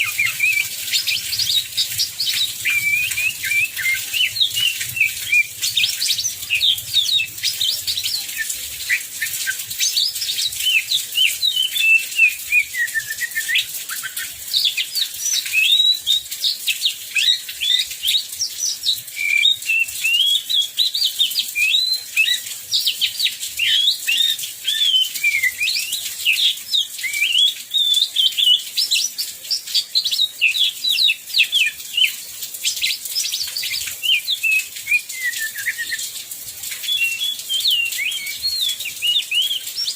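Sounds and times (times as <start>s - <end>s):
bird singing warble: 0.0s - 28.6s, 29.6s - 36.0s, 36.9s - 39.9s.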